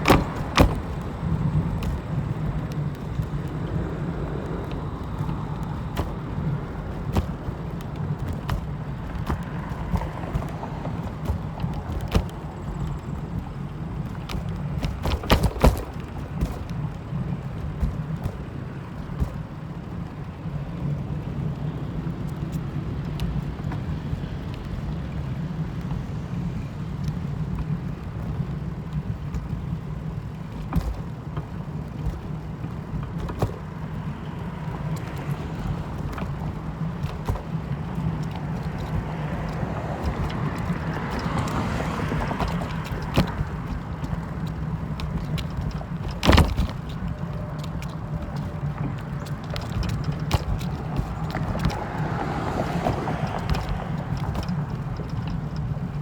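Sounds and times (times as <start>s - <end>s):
vehicle interior rumble: 0.0s - 56.0s.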